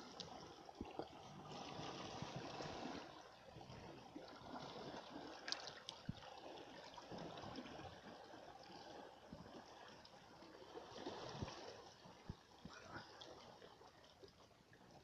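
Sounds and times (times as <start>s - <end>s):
water trickling over rocks: 0.0s - 15.0s.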